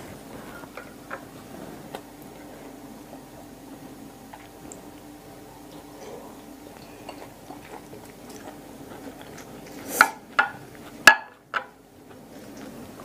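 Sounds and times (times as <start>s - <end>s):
chewing: 0.0s - 3.5s, 4.3s - 13.0s.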